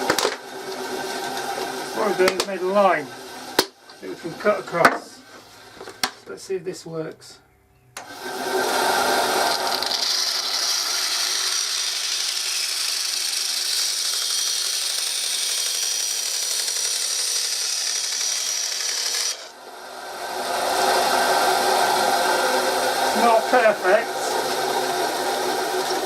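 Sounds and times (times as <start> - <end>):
power tool grinding plastic: 0.0 - 6.2, 8.0 - 26.0.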